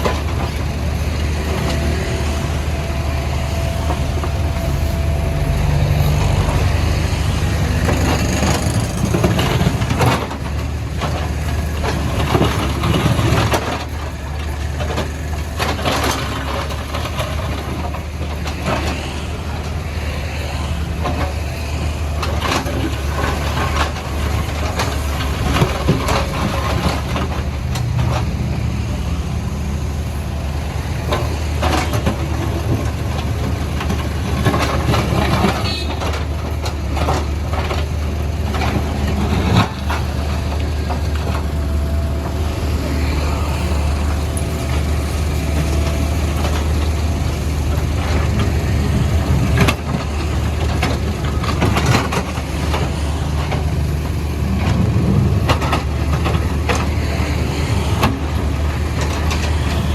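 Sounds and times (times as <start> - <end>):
bucket knocking and scraping road: 0.0 - 59.9
diesel engine running under load: 0.0 - 59.9.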